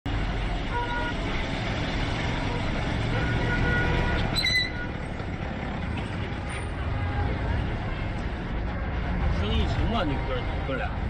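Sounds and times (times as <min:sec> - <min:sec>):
street traffic rumble: 0:00.1 - 0:11.0.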